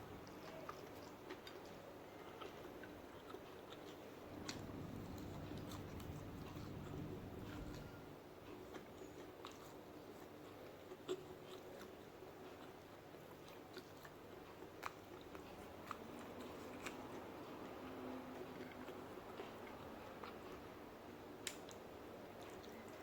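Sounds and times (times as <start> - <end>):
faint chewing and biting: 0.0 - 23.0.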